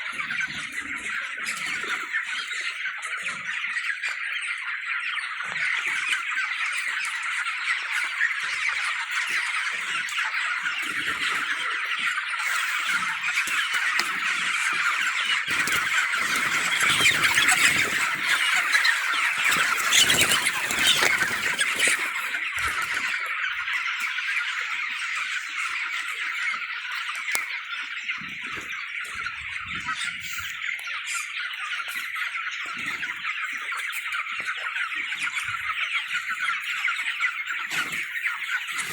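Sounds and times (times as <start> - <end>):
flock of chickens calling: 0.0 - 38.9.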